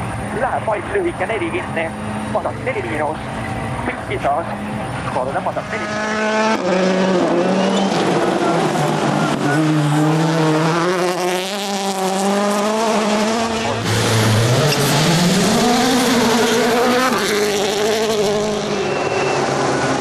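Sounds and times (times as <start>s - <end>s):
rally car engines racing: 0.0s - 20.0s.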